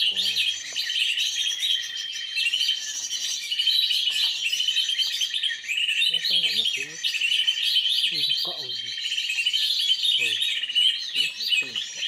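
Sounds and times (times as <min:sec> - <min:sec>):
small birds chirping and twittering: 0:00.0 - 0:12.0.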